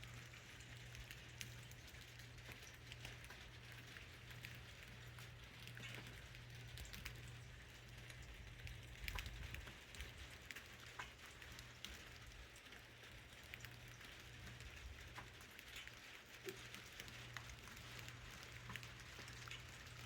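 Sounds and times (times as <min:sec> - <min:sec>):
light rain hiss: 0:00.0 - 0:20.0
raindrops ticking: 0:00.0 - 0:20.0.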